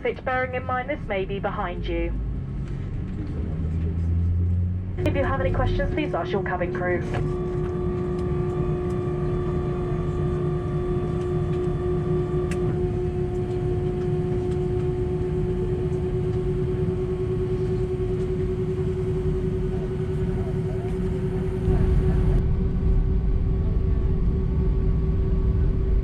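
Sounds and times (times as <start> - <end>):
steady hum: 0.0 - 3.1, 3.7 - 26.0
aircraft cabin rumble: 0.0 - 26.0
high whine: 0.0 - 26.0.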